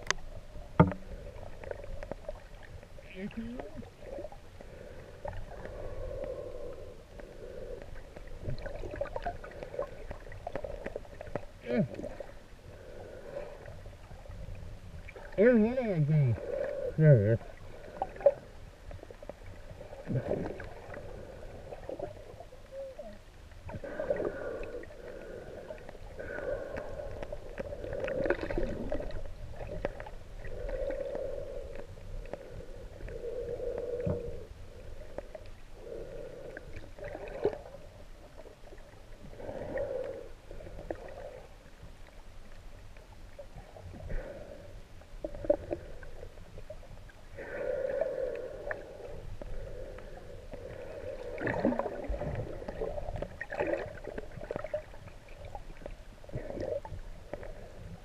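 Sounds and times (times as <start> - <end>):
dull underwater hums: 0.0 - 58.0
water swishing underwater: 0.0 - 58.0.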